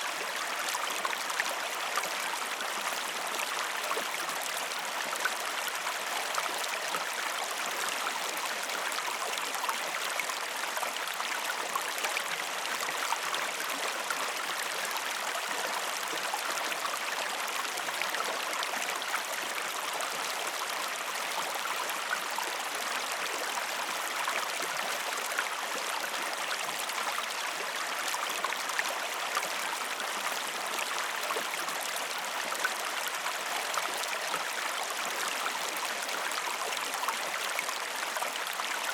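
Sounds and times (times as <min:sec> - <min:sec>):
stream water burbling over stones: 0:00.0 - 0:38.9.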